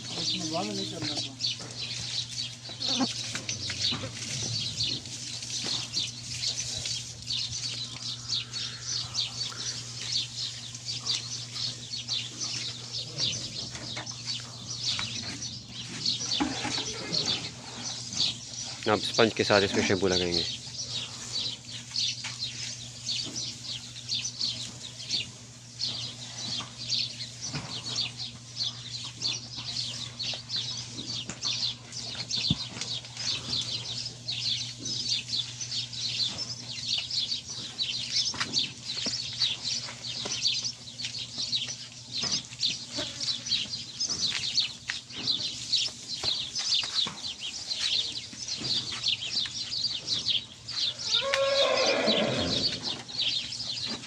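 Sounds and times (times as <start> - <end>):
steady low hum: 0.0 - 51.2
small birds chirping: 0.0 - 54.0.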